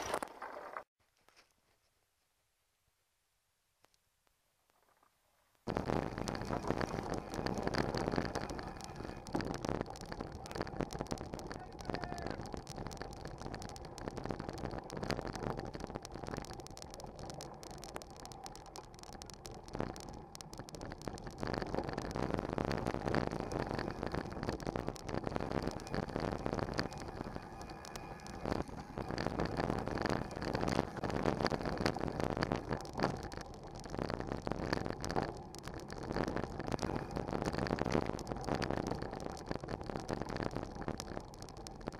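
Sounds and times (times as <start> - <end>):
bike tyres rolling on gravel: 0.0 - 0.9, 5.7 - 41.9.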